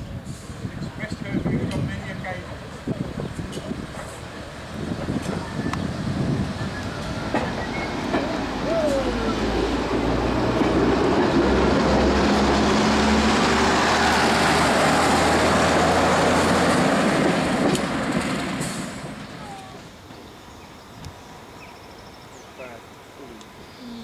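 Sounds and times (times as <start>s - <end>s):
train wheels rumbling on track: 0.0s - 21.8s
diesel engines humming: 0.0s - 24.0s.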